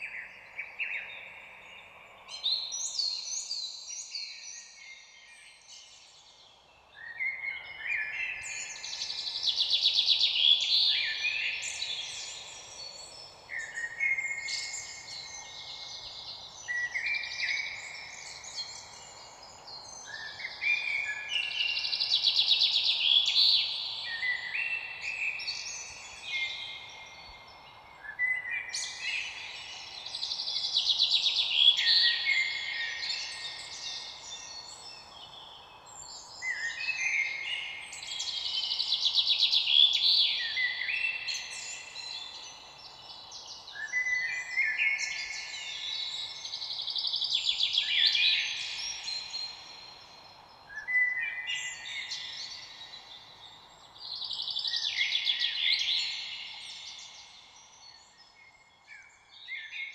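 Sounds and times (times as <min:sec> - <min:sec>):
faint background hiss: 0:00.0 - 0:59.9
songbird singing chirps and trills: 0:00.0 - 0:59.9.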